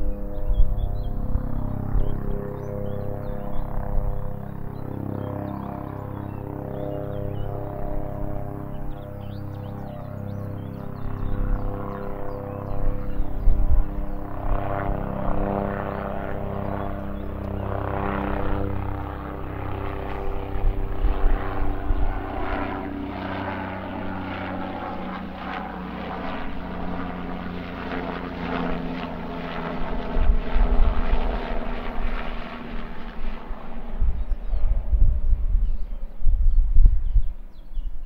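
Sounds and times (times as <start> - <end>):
helicopter rotor chopping: 0.0 - 36.2.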